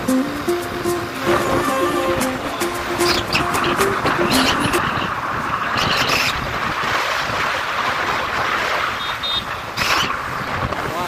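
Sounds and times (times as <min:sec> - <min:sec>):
motorcycle road noise: 0:00.0 - 0:11.0
wind rushing over microphone: 0:00.0 - 0:11.0.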